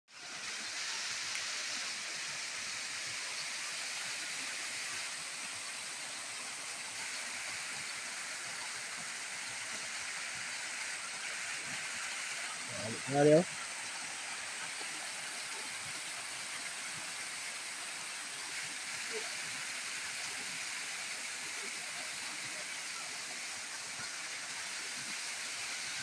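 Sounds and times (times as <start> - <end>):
waterfall rushing water: 0.1 - 26.0.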